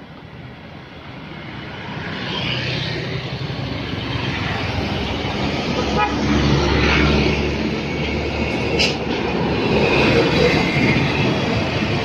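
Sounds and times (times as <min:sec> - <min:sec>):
car passing: 0:01.3 - 0:12.0.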